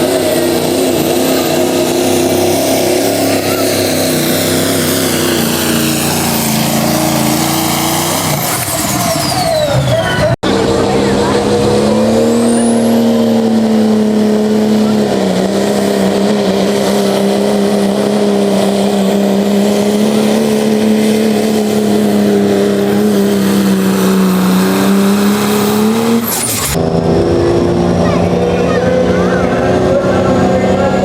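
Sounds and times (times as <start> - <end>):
diesel truck engine drone: 0.0 - 31.0.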